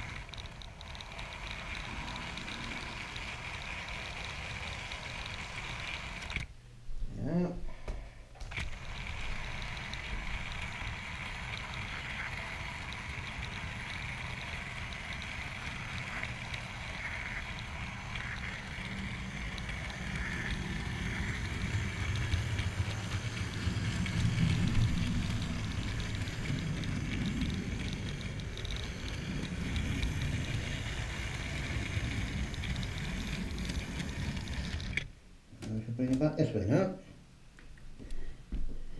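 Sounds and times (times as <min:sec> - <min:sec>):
model train wheels rattling: 0:00.0 - 0:06.5, 0:08.4 - 0:35.1.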